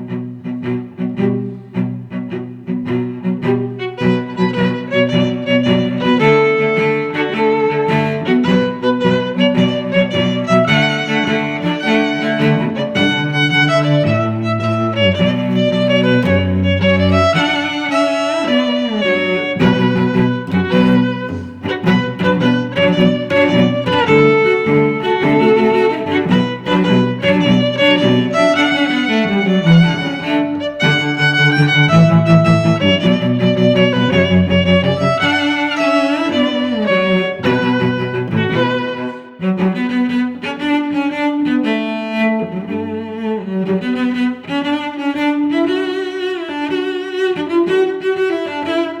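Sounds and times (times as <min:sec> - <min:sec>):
cello lines: 0:00.0 - 0:49.0
violin melody: 0:00.0 - 0:49.0.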